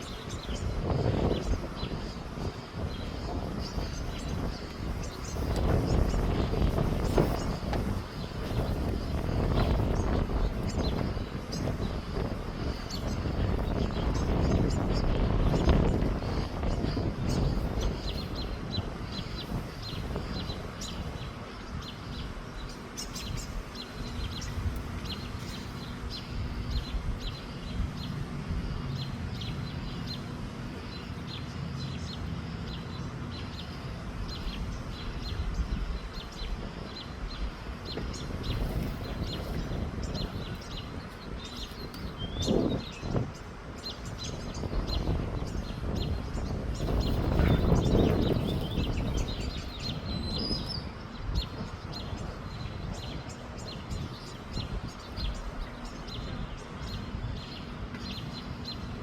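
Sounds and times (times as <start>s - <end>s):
small bird chirping: 0.0s - 59.0s
wind rumble on microphone: 0.0s - 59.0s.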